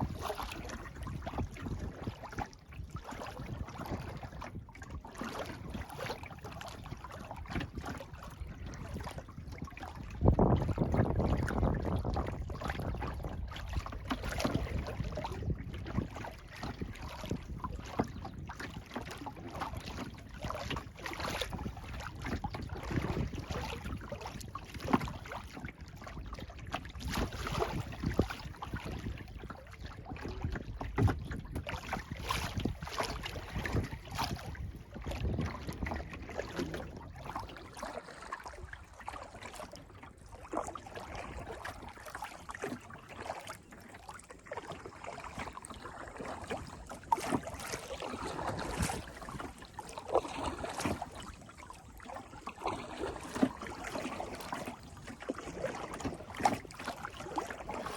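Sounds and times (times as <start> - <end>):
paddle splashing in water: 0.0 - 57.9
water lapping at hull: 0.0 - 57.9.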